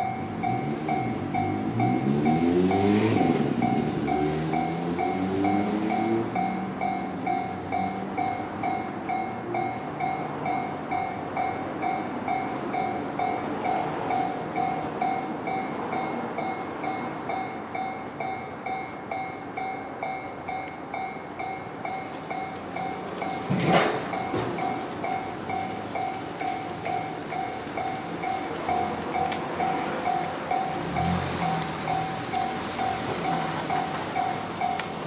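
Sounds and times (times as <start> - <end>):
level-crossing warning bell: 0.0 - 35.0
train rumble: 0.0 - 35.0.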